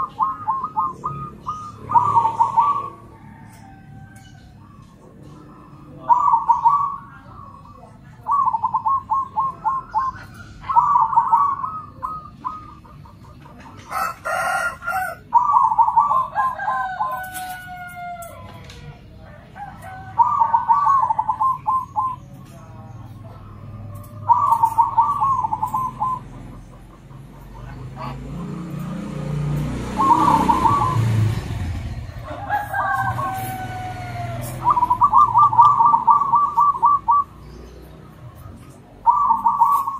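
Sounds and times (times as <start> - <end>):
doves trilled cooing: 0.0 - 39.9.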